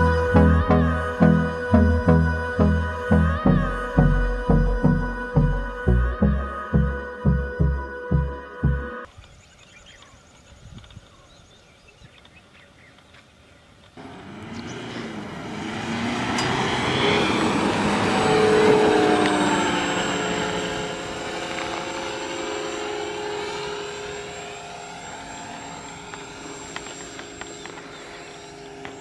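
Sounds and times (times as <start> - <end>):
propeller motors whining and buzzing: 0.0 - 9.4, 13.8 - 29.0.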